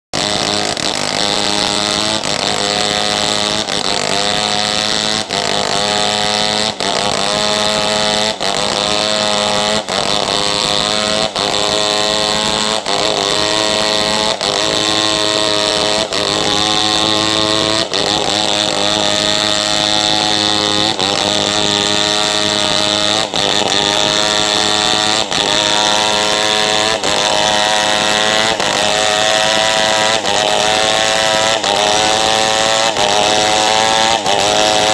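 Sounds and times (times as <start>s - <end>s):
chainsaw engine revving: 0.1s - 34.9s.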